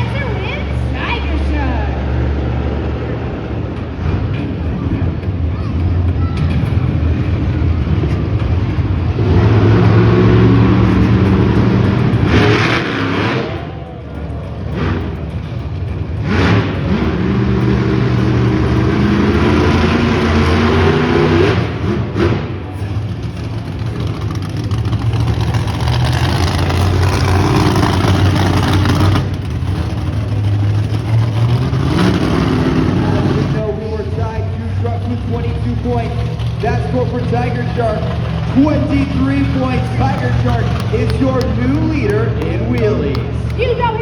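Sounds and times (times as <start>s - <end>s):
monster truck engine revving: 0.0s - 44.0s.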